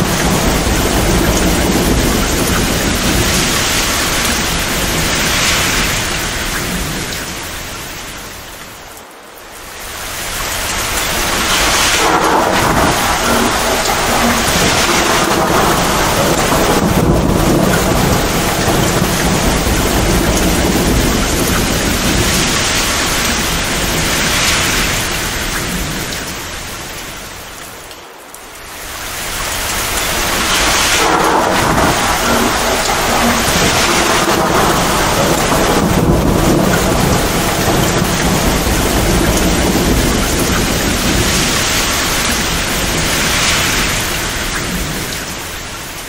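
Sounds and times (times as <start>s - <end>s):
thunder rumbling: 0.0s - 8.9s, 9.6s - 27.9s, 28.5s - 46.0s
torrential rain pouring: 0.0s - 46.0s.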